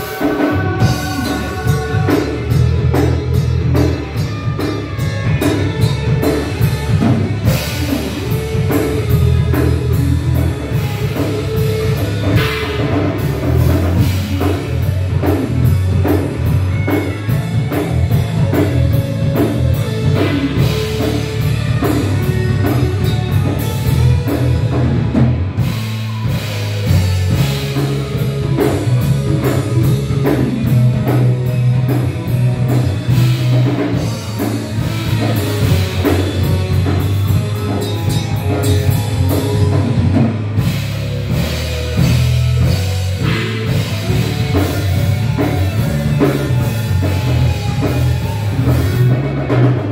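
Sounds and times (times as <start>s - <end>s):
bass: 0.0s - 49.9s
drum kit: 0.0s - 49.9s
electric guitar: 0.0s - 49.9s
keyboard: 0.0s - 49.9s.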